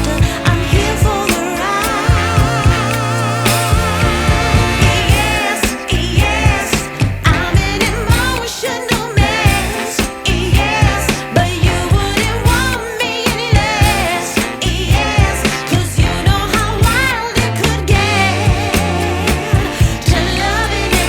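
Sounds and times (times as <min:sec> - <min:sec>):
song with vibrato vocals: 0:00.0 - 0:21.0.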